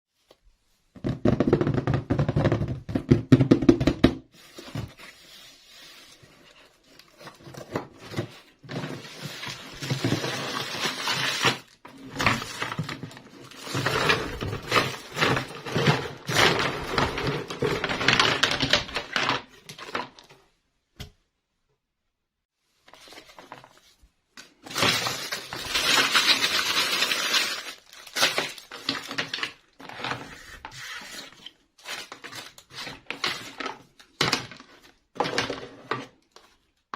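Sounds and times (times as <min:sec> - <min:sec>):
packaging rustling and crinkling: 0:04.4 - 0:20.4, 0:22.7 - 0:36.8.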